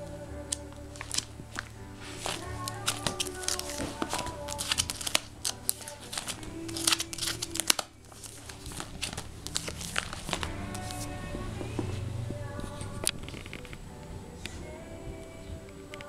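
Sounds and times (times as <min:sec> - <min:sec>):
background music: 0:00.0 - 0:16.0
plastic album pages crinkling: 0:00.5 - 0:13.8.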